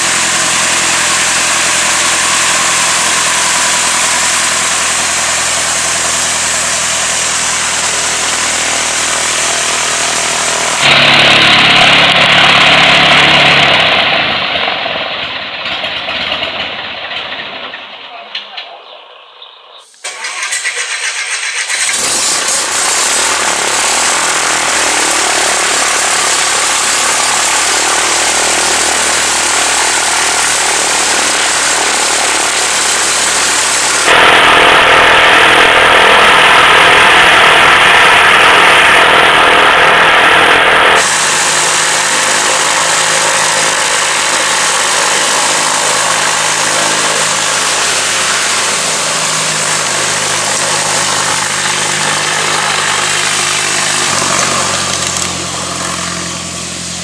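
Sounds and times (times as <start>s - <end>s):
light aircraft piston engine running: 0.0s - 17.9s, 20.0s - 57.0s.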